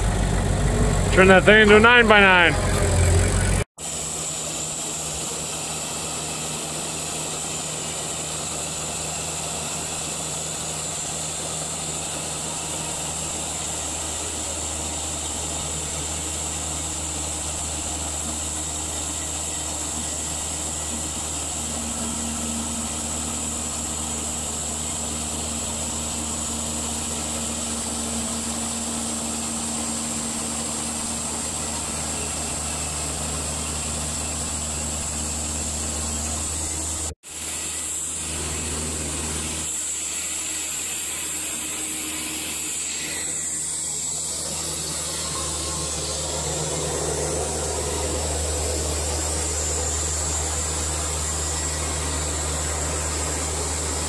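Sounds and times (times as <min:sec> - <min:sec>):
higher steady hum: 0:00.0 - 0:03.7, 0:04.5 - 0:54.0
band sawmill cutting log: 0:00.0 - 0:54.0.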